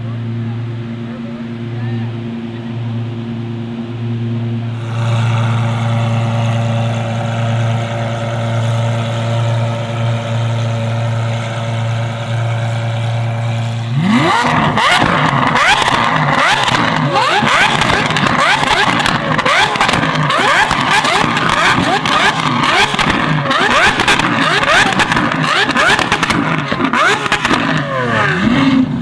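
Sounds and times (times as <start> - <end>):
sports car engine revving: 0.0 - 29.0
sharp exhaust crackles: 3.9 - 29.0.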